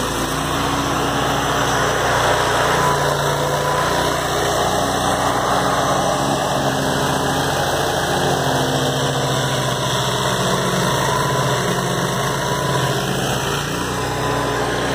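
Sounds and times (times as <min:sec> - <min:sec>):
stump grinder grinding root: 0:00.0 - 0:14.9.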